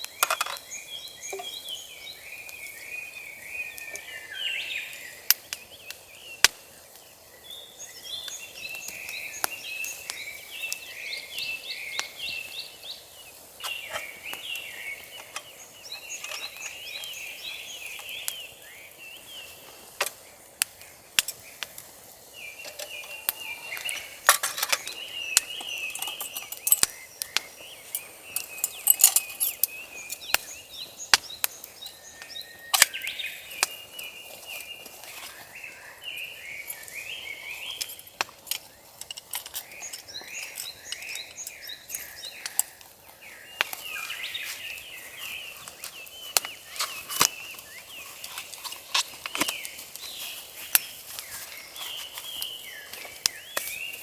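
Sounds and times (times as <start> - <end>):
campfire crackling and popping: 0.0 - 54.0
small birds chirping: 0.0 - 54.0.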